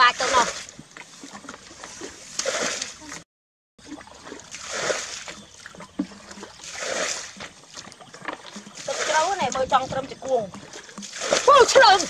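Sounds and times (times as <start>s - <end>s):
wading through muddy water: 0.0s - 3.2s, 3.8s - 12.0s.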